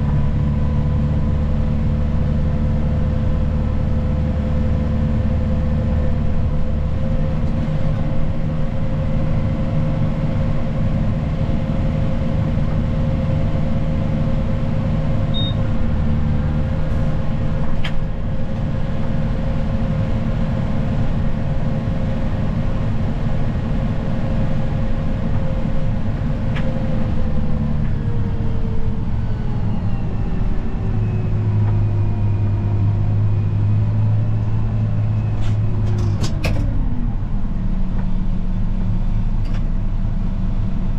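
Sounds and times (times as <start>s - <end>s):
snow plow engine rumbling: 0.0s - 40.9s.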